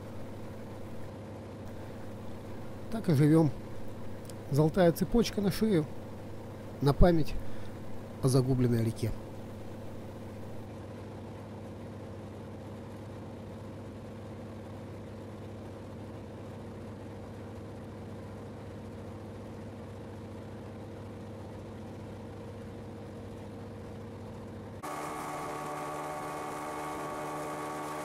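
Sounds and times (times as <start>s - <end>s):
aircraft engine drone in cabin: 0.0s - 28.0s.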